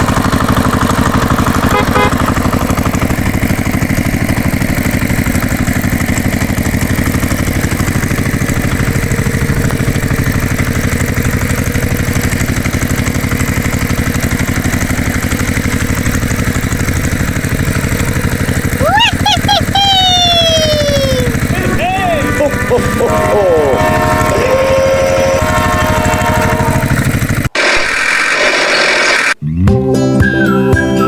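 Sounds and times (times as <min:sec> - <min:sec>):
engine idling with fast chugging: 0:00.0 - 0:29.4.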